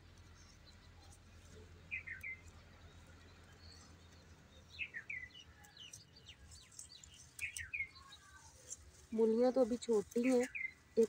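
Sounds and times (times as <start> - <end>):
faint small birds chirping: 0.0 - 11.0.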